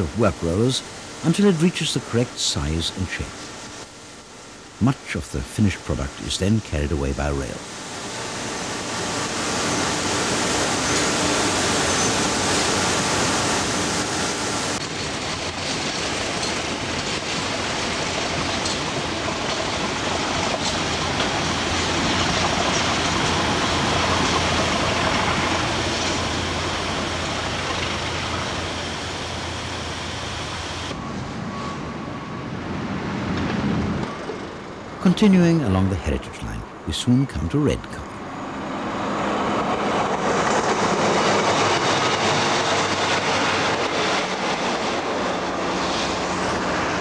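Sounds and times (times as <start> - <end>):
freight train rolling on rails: 4.7 - 47.0.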